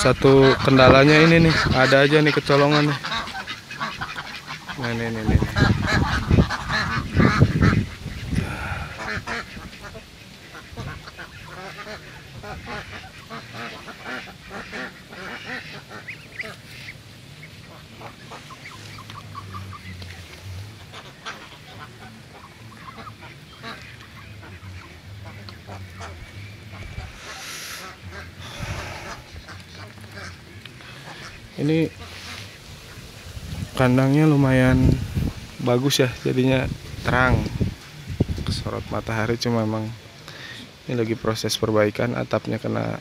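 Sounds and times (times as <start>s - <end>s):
ducks quacking: 0.0s - 43.0s.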